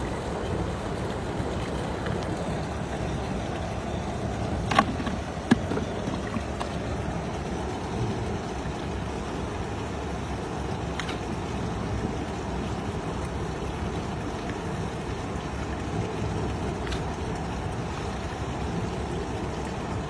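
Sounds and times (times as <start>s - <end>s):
water noise around boat: 0.0s - 20.0s
wind: 0.0s - 20.0s.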